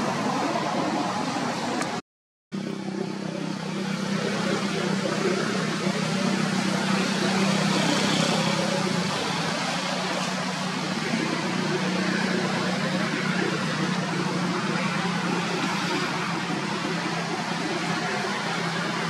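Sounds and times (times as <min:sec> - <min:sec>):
vehicle engine running: 0:02.6 - 0:19.0.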